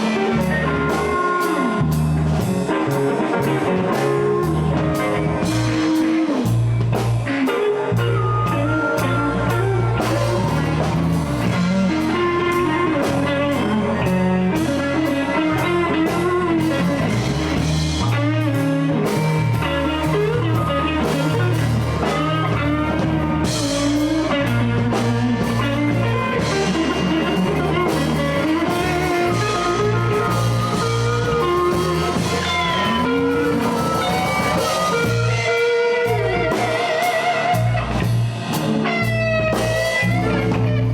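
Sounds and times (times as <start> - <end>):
bass line: 0.0 - 40.9
drum kit: 0.0 - 40.9
electric guitar lines: 0.0 - 40.9.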